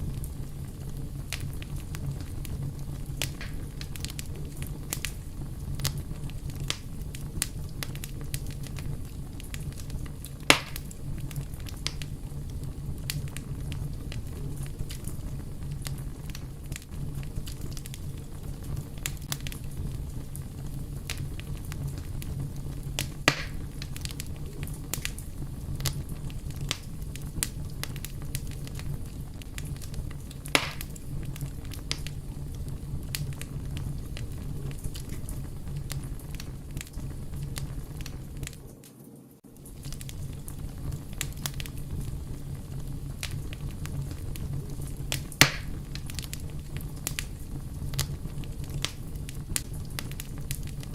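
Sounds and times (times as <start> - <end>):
fire crackling: 0.0 - 50.9
loud pops of fire: 0.0 - 50.9.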